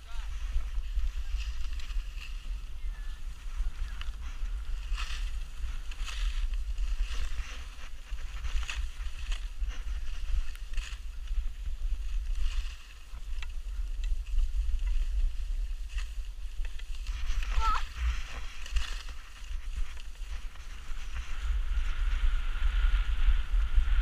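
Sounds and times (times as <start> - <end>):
skis scraping on packed snow: 0.0 - 24.0
wind rumble on microphone: 0.0 - 24.0.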